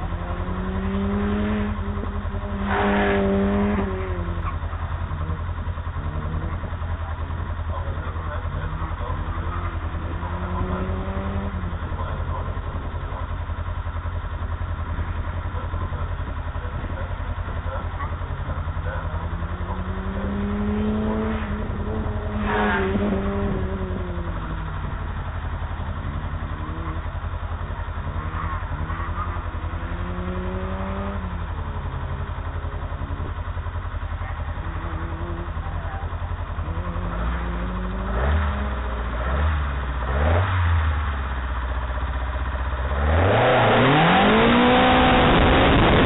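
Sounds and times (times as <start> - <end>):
cars accelerating and braking: 0.0 - 14.0, 17.3 - 33.9, 34.5 - 46.0
car engine idling: 0.0 - 46.0.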